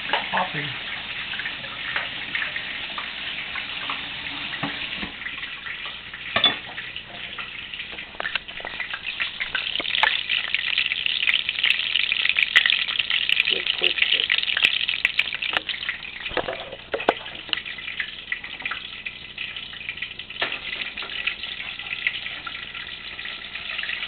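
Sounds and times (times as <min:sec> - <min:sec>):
oil sizzling in a pan: 0:00.0 - 0:24.0.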